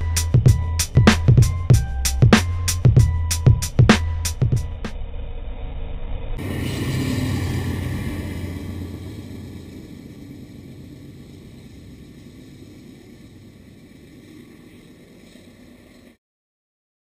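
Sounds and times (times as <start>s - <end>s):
freight train rumbling past: 0.0s - 16.2s.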